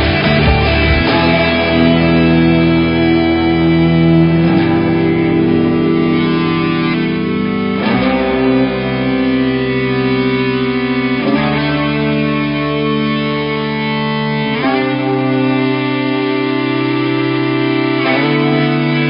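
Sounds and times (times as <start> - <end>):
guitar instrumental music: 0.0 - 19.0.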